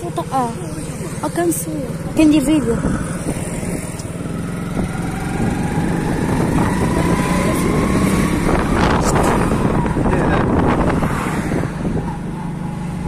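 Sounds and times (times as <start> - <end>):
road noise: 0.0 - 13.0
vehicle engine running: 0.0 - 13.0.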